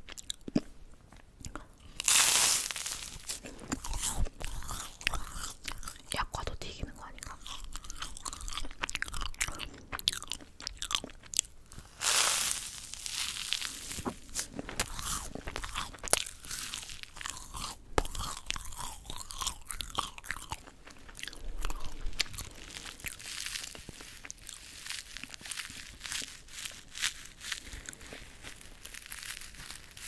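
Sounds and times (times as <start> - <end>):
rice cracker crunching: 0.1 - 6.5, 7.2 - 30.0.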